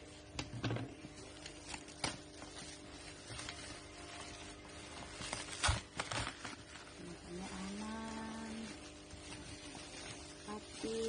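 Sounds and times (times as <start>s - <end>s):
packaging clicks and crinkles: 0.2s - 11.0s
parcel rustling: 0.9s - 11.0s.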